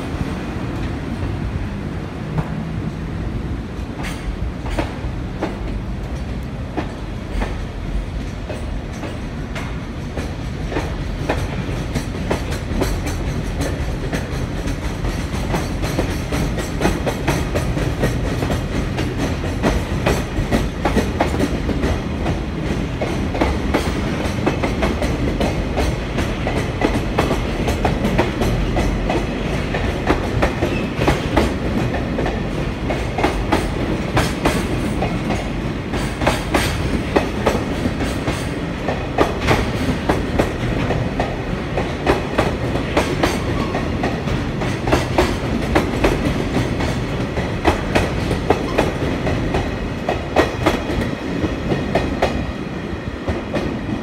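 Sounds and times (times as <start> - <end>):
train wheels clacking over rail joints: 3.8 - 52.4
sharp bangs from train wheels: 3.8 - 54.0.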